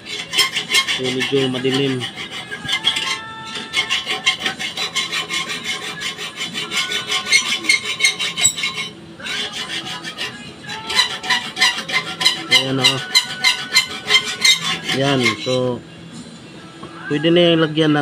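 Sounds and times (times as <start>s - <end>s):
rapid rasping scrapes: 0.0s - 15.8s.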